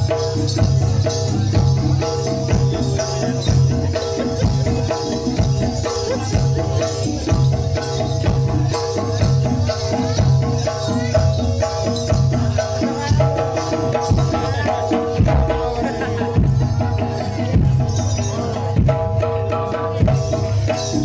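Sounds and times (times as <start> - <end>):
rattling percussion: 0.0 - 21.0
steady driving drumming: 0.0 - 21.0.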